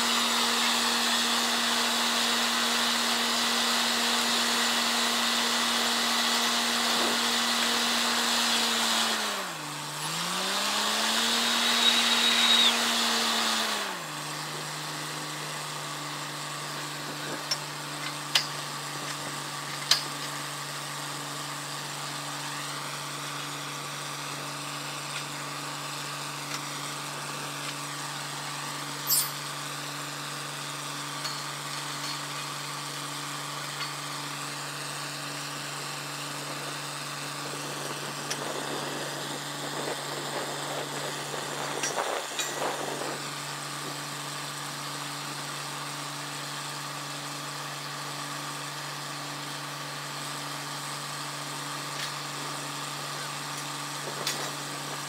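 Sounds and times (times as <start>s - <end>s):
drilling rig engine: 0.0s - 47.6s.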